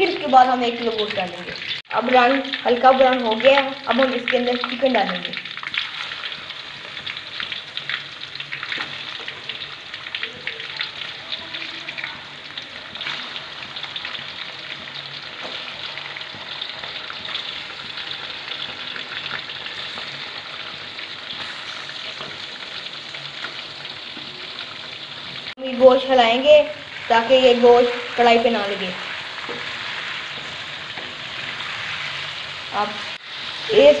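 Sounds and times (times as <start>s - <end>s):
chicken frying in oil: 0.0s - 34.0s.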